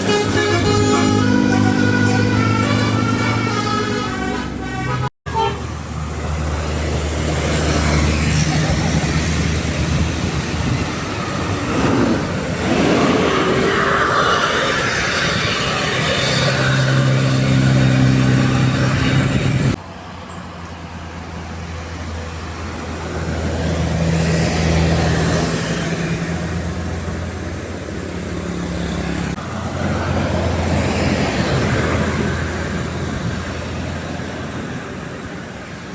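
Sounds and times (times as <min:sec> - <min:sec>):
buses driving past: 0:00.0 - 0:35.9
road noise: 0:00.0 - 0:35.9.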